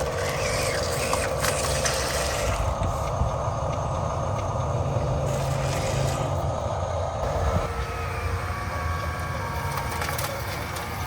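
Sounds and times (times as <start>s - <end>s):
electric motors and gears whining: 0.0s - 11.0s.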